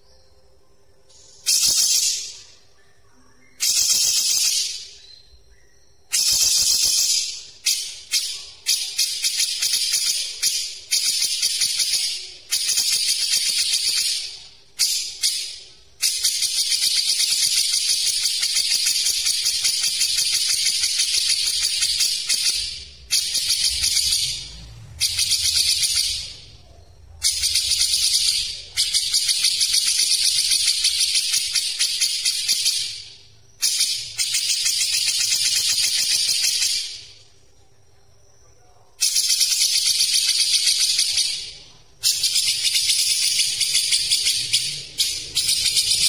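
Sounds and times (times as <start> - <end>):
bird chattering song: 1.1 - 37.3, 39.0 - 46.0.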